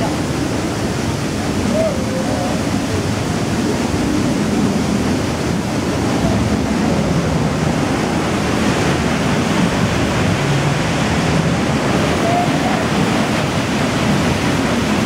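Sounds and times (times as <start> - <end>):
water rushing along hull: 0.0 - 15.0.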